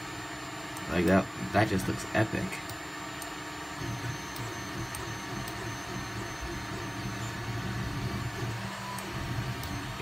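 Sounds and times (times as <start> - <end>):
printer motors humming: 0.0 - 10.0.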